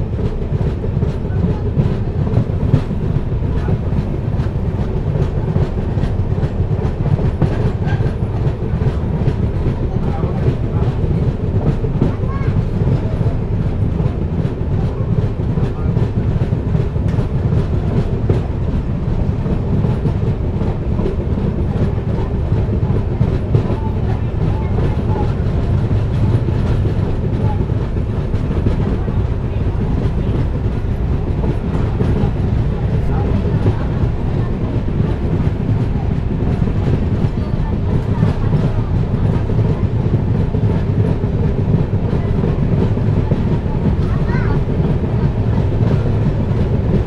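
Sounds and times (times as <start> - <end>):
air rushing past train: 0.0 - 47.0
train wheels clattering on rails: 0.0 - 47.0.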